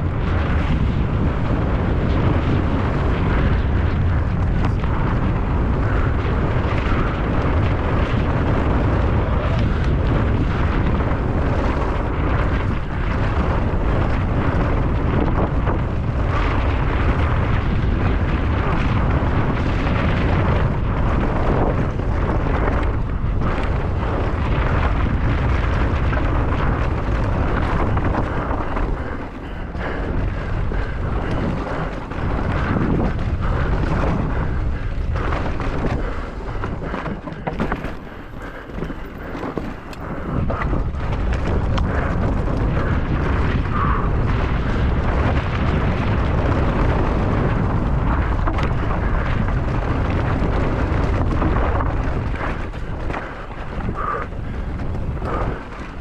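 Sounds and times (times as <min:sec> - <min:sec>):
mountain bike rumbling: 0:00.0 - 0:56.0
wind buffeting microphone: 0:00.0 - 0:56.0.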